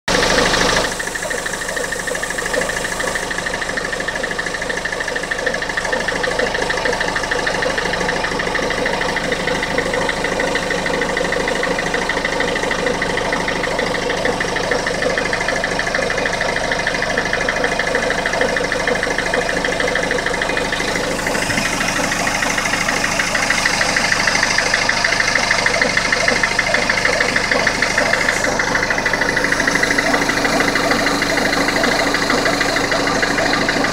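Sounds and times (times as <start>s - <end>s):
diesel engine running: 0.0s - 33.9s
fast rhythmic engine noise: 0.1s - 33.9s.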